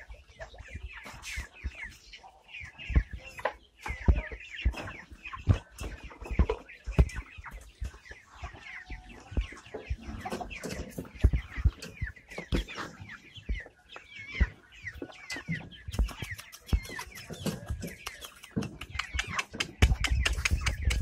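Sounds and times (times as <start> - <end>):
chickens calling and clucking: 0.0 - 21.0.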